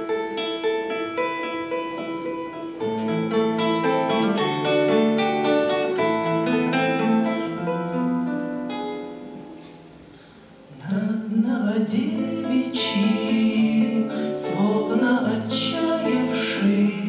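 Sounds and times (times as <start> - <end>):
acoustic guitars picking: 0.0 - 17.0.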